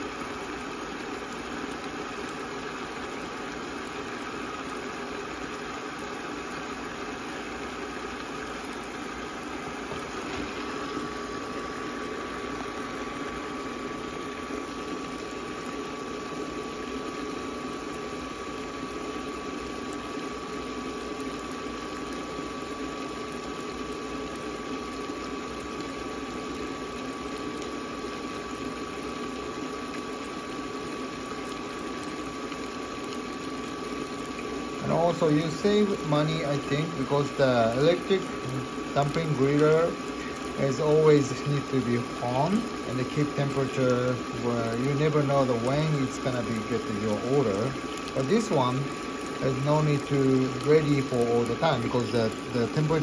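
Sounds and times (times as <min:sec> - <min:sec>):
cooktop hum: 0:00.0 - 0:53.0
dumplings sizzling in a pan: 0:00.0 - 0:53.0.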